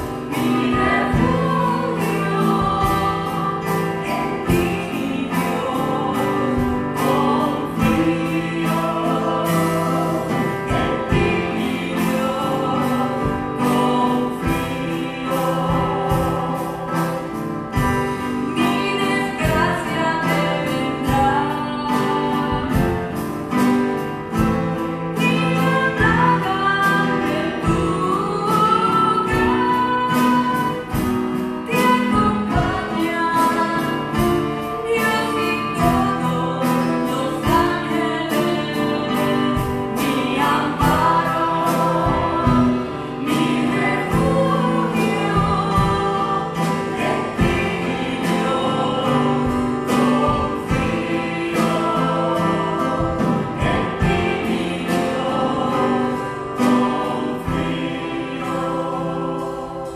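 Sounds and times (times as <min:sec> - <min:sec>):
strummed guitar: 0:00.0 - 0:59.9
women singing into microphones: 0:00.0 - 0:59.9.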